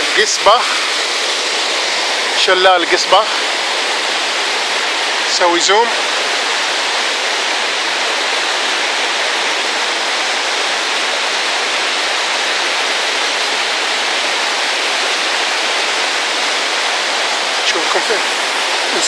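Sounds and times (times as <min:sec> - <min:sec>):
waterfall pouring onto rocks: 0:00.0 - 0:19.0.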